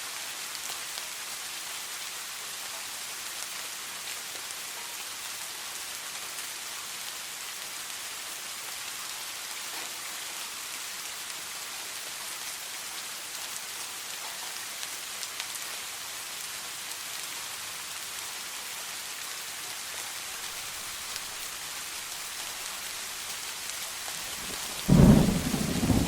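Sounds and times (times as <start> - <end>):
heavy rain falling: 0.3 - 26.0.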